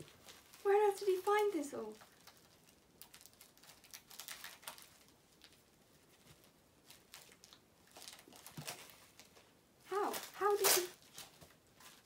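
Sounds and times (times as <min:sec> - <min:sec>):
glossy paper rustling: 0:00.0 - 0:12.0.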